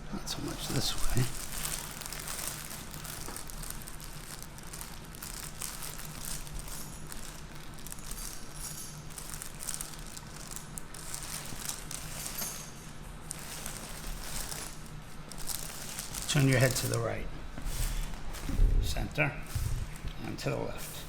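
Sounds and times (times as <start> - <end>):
steady low hum: 0.0 - 21.0
soft crinkling and rustling: 0.2 - 21.0.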